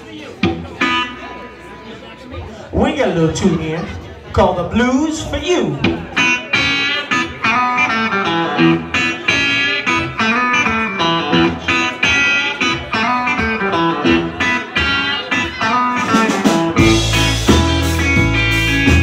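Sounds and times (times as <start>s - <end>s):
electric guitar melody: 0.0s - 2.5s, 3.1s - 19.0s
live blues band playing: 0.0s - 19.0s.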